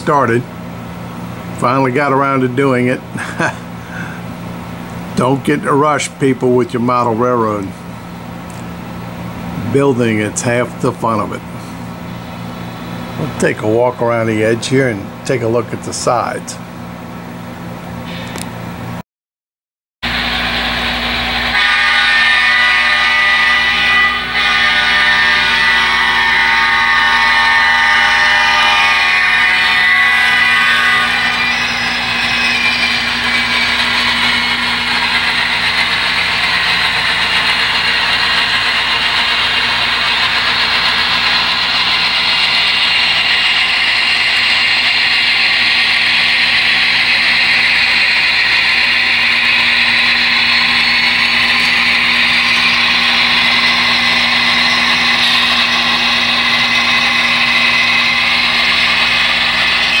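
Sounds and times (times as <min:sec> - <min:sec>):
model locomotives humming and whirring: 0:00.0 - 0:19.0, 0:20.0 - 1:00.0.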